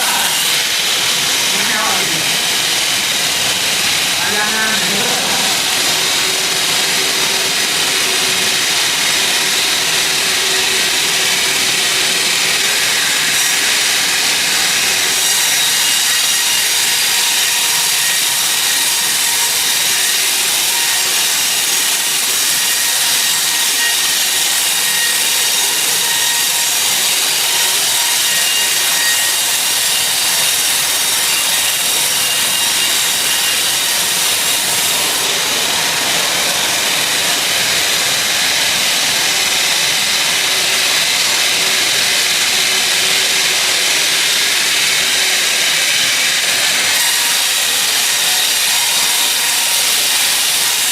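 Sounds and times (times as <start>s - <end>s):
saw cutting through log: 0.0s - 50.9s.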